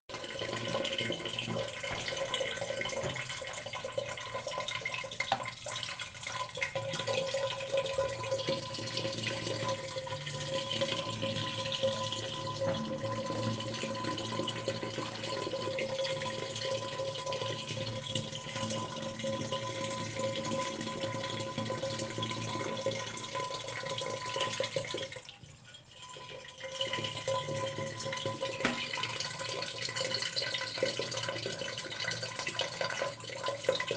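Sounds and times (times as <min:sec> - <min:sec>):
water trickling in hollow surface: 0:00.1 - 0:33.9.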